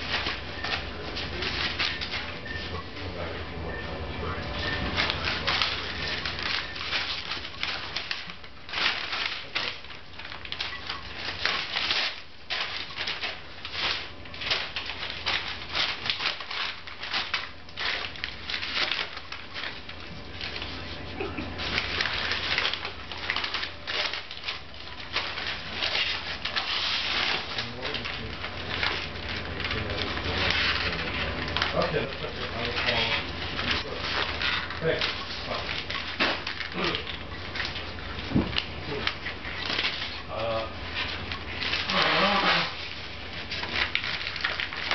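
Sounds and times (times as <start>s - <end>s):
paper rustling and ripping: 0.0s - 3.3s, 4.3s - 44.9s.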